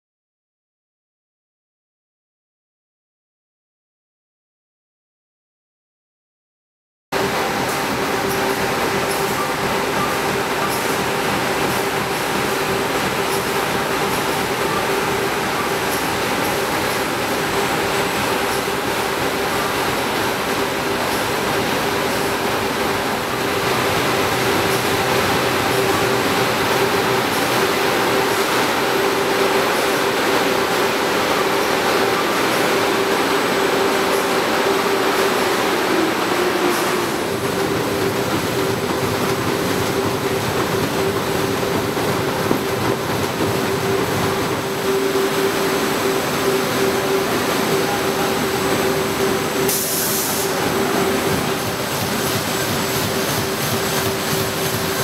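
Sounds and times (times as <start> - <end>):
printing machinery din: 7.2 - 55.0.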